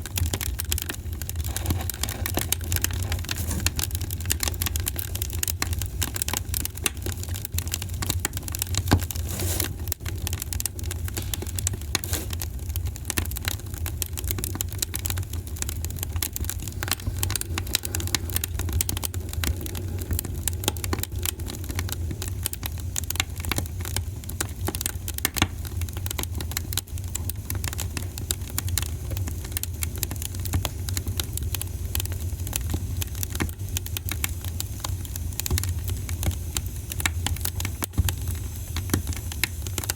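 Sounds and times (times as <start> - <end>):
fire pops and snaps: 0.0 - 39.9
low rumble of flames: 0.0 - 39.9.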